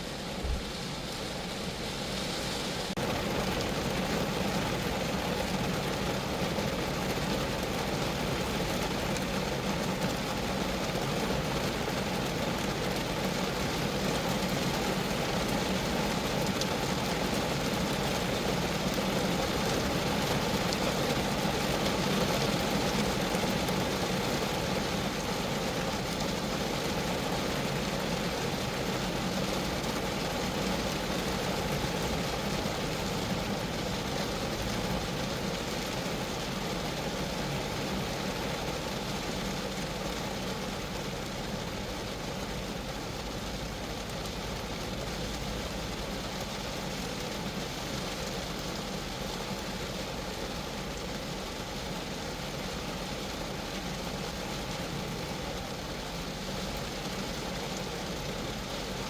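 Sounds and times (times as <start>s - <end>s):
rain pattering on a car: 0.0s - 59.0s.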